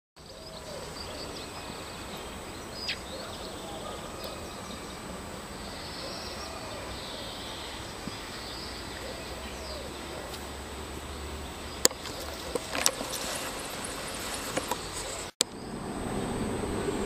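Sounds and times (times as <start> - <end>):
faint bird calls: 0.2 - 15.8.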